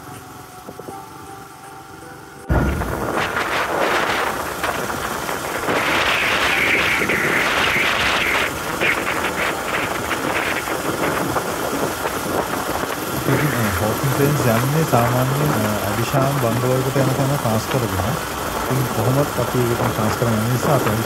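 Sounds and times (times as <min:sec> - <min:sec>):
motorcycle engine running: 0:00.0 - 0:01.9, 0:02.5 - 0:21.0
rush of wind: 0:02.5 - 0:21.0.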